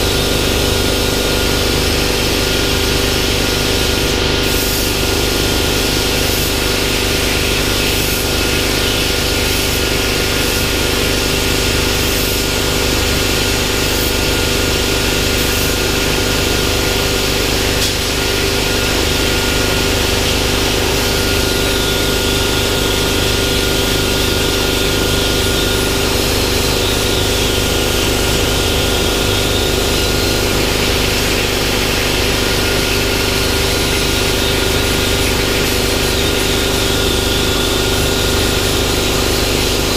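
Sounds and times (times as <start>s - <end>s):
steady hum: 0.0s - 39.9s
plasma arc hiss: 1.4s - 39.9s.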